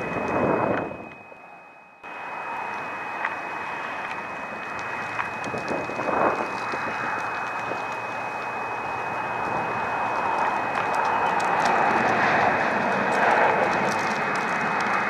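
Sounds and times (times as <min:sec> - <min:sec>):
wind buffeting microphone: 0:00.0 - 0:01.3, 0:02.0 - 0:15.0
faint high whine: 0:00.0 - 0:15.0.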